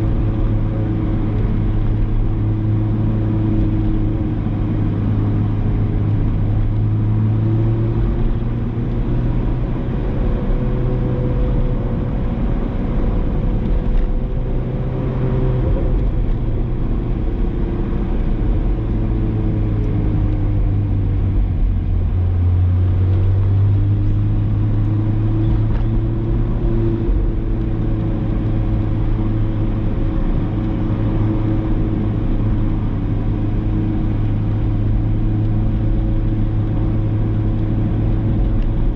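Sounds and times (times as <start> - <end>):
car engine at low revs: 0.0 - 38.9.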